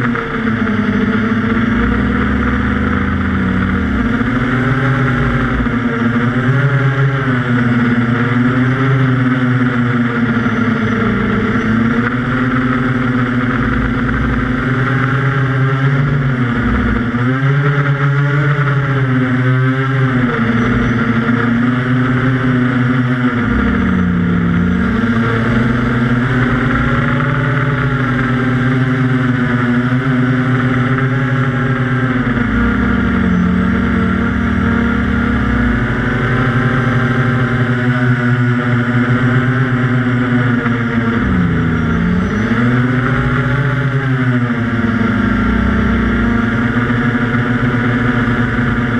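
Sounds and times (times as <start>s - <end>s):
quadcopter buzzing whine: 0.0s - 48.9s.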